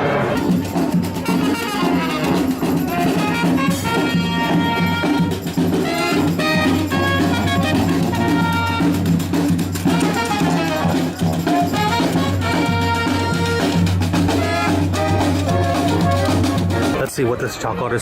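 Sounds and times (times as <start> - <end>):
jazz music with drums and horns: 0.0 - 18.0.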